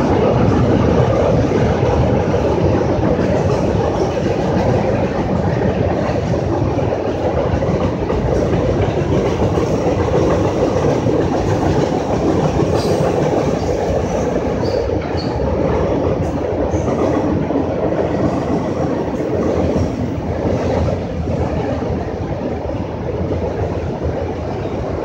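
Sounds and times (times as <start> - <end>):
train wheels rumbling on a bridge: 0.0 - 25.0.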